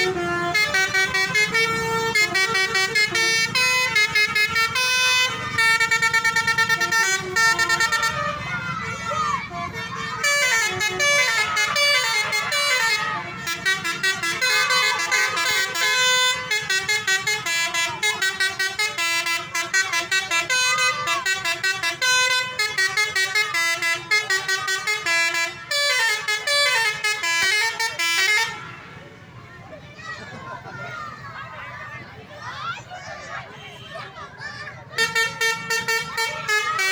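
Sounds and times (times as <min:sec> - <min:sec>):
multi-tone bus horns: 0:00.0 - 0:29.6, 0:33.2 - 0:36.9.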